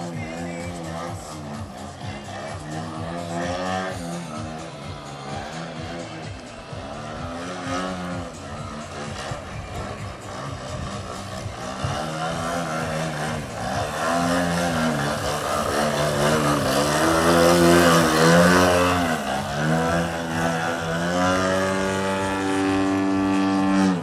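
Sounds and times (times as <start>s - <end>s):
model plane engine and propeller: 0.0s - 24.0s.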